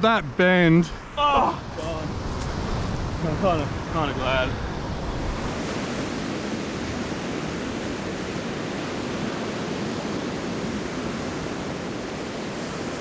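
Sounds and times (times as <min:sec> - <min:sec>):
ocean waves breaking on beach: 0:01.0 - 0:13.0.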